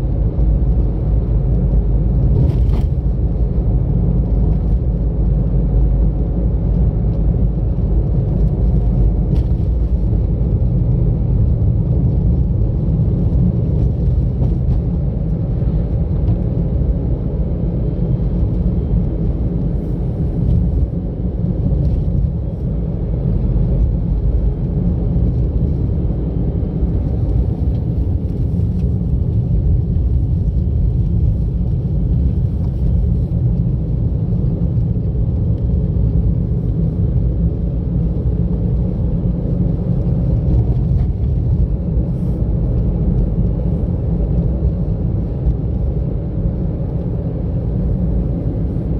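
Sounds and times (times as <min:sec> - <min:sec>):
car engine and tyre rumble: 0:00.0 - 0:48.9.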